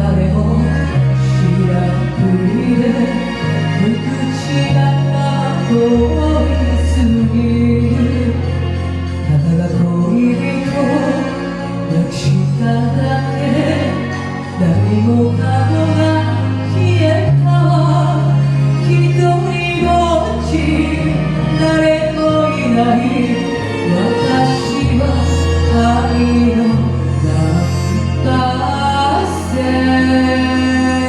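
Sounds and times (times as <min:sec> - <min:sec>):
held bass notes: 0:00.0 - 0:31.0
slow ballad accompaniment: 0:00.0 - 0:31.0.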